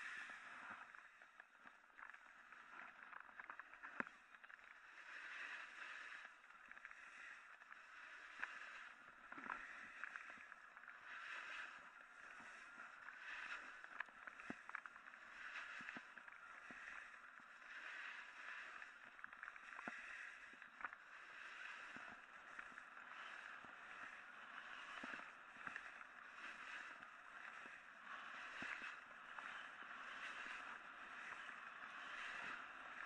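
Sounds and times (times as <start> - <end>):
sharp ticks from snow: 0.0 - 33.0
skis scraping over snow: 0.0 - 33.0.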